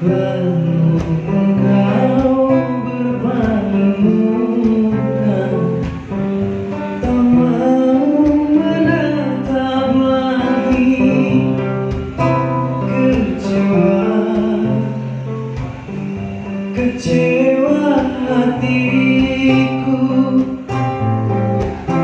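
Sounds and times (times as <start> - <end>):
acoustic guitar strumming: 0.0 - 22.0
man singing: 0.0 - 22.0.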